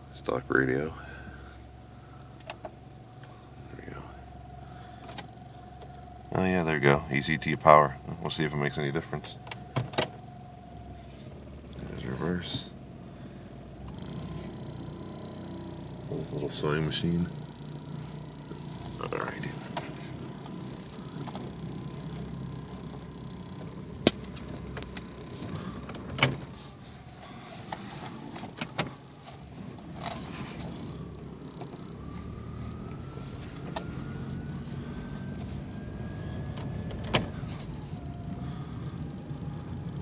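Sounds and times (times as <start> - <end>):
car engine low rumble: 0.0 - 40.0
faint rising whine: 0.0 - 40.0.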